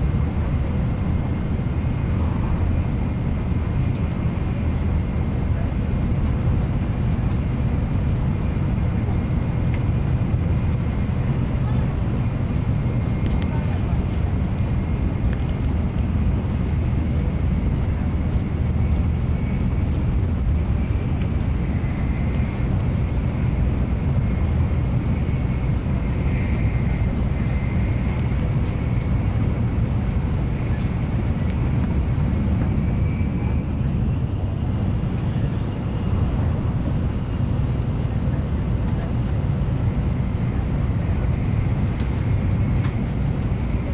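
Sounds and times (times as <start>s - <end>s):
train cabin low rumble: 0.0s - 43.9s.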